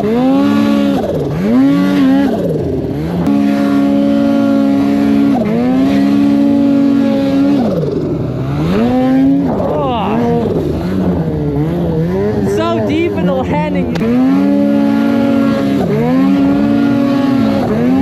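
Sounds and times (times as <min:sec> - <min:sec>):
snowmobile engine revving: 0:00.0 - 0:18.0.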